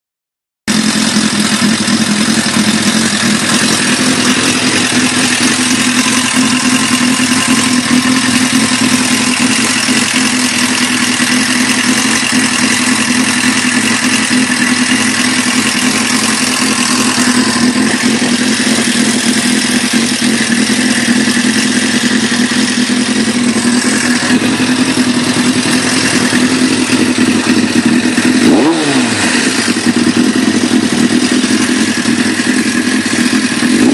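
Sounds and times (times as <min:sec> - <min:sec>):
motorcycle engine idling: 0:00.7 - 0:33.9.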